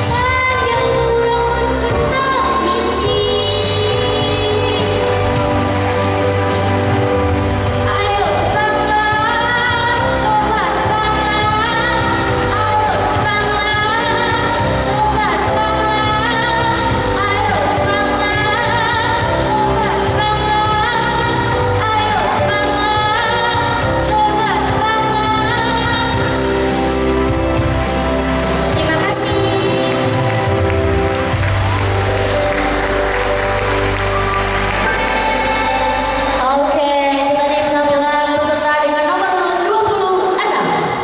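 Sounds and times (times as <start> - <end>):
girl singing pop song: 0.0 - 6.2, 7.6 - 27.6, 28.6 - 30.8, 36.3 - 41.0
instrumental accompaniment with bass: 0.0 - 38.5.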